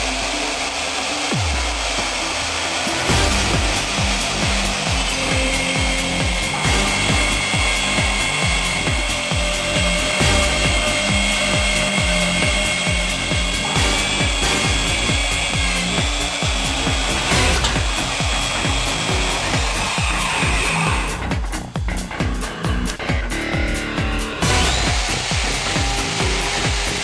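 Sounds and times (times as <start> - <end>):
background music with beat: 0.0 - 27.0
core drill motor whining: 0.0 - 27.0.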